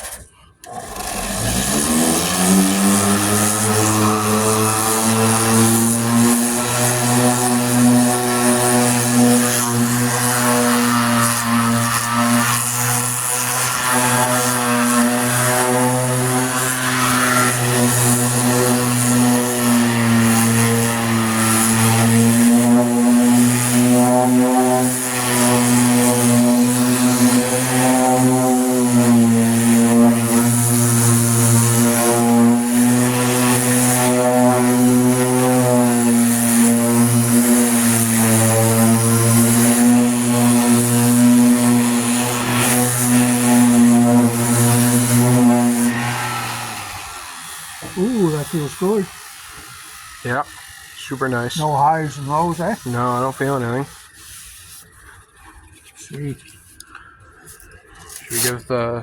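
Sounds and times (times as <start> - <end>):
power sander whining: 0.0 - 58.6.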